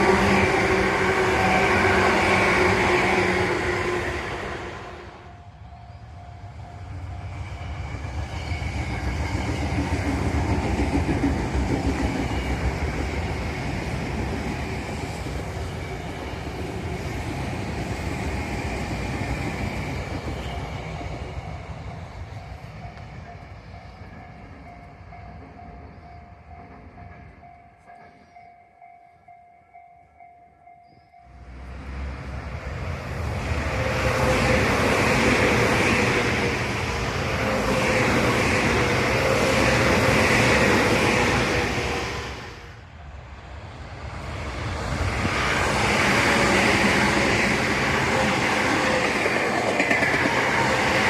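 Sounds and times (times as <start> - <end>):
train wheels rumbling on rails: 0.0 - 30.3, 31.1 - 51.0.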